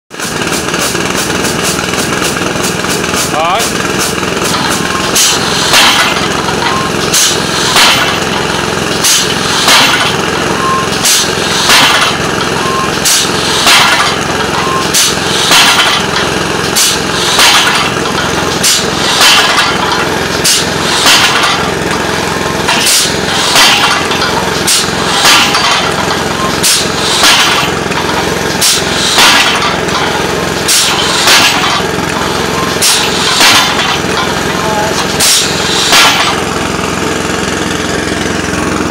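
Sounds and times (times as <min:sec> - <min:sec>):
pneumatic pile driver blasts and knocks: 0:00.1 - 0:38.9
small engine running: 0:00.1 - 0:38.9.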